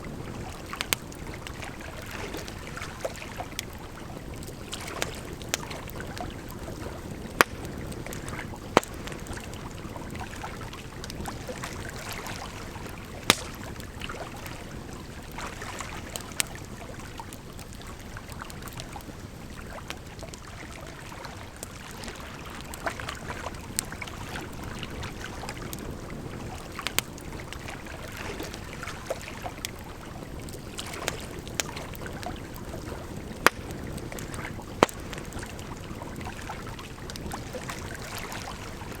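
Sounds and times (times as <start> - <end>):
campfire crackling and popping: 0.0 - 39.0
flowing water: 0.0 - 39.0.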